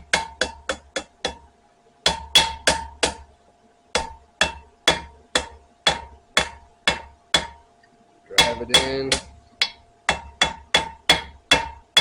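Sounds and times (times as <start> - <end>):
hammer striking steel on anvil: 0.0 - 3.2, 4.0 - 7.6, 8.4 - 12.0.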